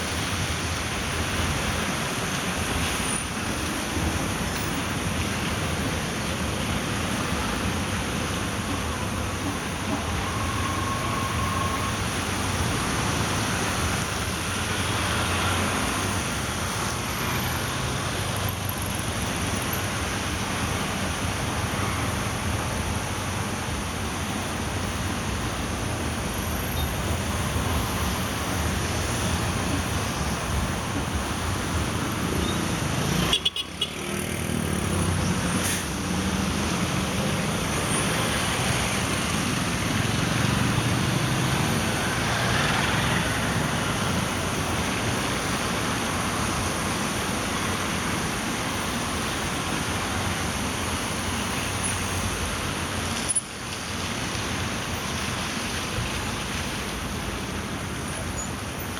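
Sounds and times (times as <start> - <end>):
vehicle and road noise: 0.0 - 58.9.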